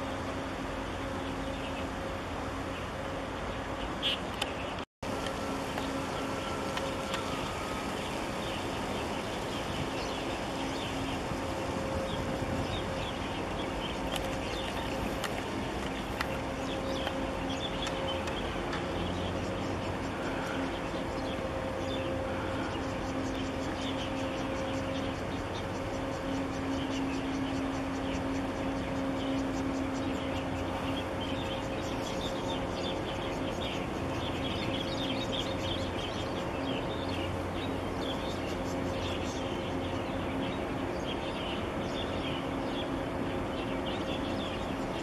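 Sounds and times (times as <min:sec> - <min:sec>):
ship engines droning: 0:00.0 - 0:45.0
wind and water rushing: 0:00.0 - 0:45.0
small birds chirping: 0:05.7 - 0:45.0.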